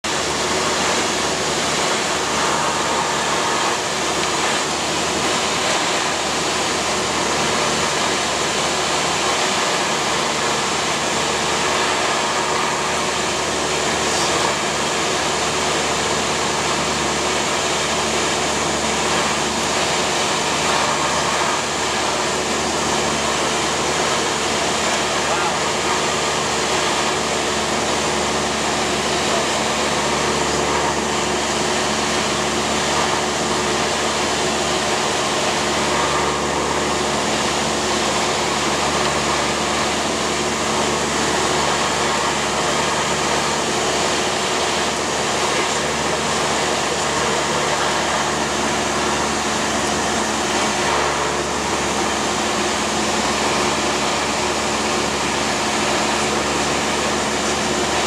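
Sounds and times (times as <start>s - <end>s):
plane engine and propeller droning: 0.1s - 58.0s.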